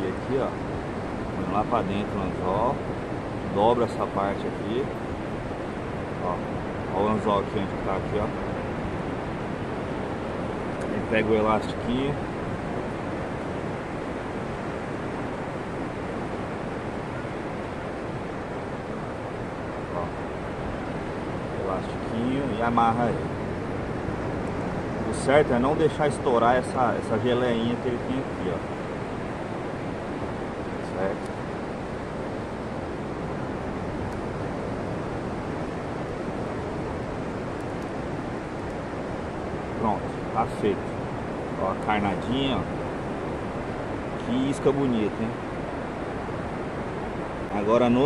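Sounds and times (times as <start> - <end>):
ocean surf breaking: 0.0 - 48.0
wind on microphone: 0.0 - 48.0.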